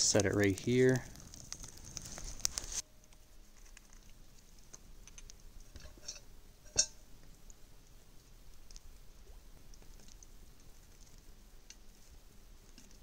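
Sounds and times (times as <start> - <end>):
campfire coals crackling: 0.0 - 13.0.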